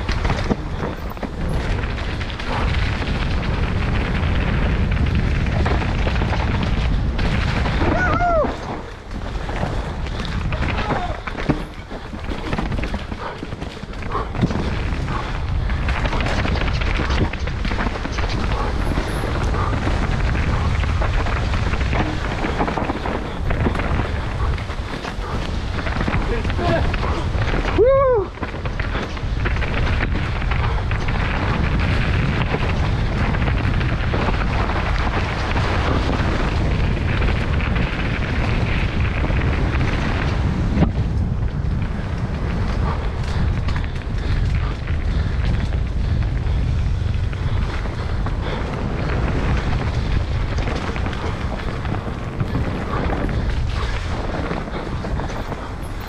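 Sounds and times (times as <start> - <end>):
bike knocking and rattling: 0.0 - 56.0
bike tyres on dirt and leaves: 0.0 - 56.0
wind buffeting microphone: 0.0 - 56.0.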